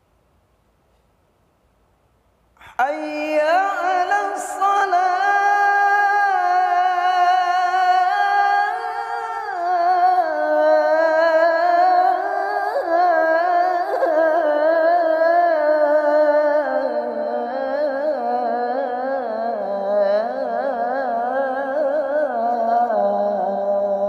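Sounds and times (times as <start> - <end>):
man singing call to prayer: 2.6 - 24.0.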